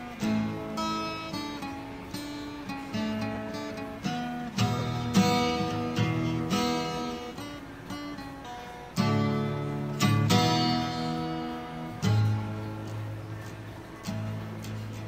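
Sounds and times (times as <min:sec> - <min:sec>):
acoustic guitar picking and strumming: 0:00.0 - 0:15.0.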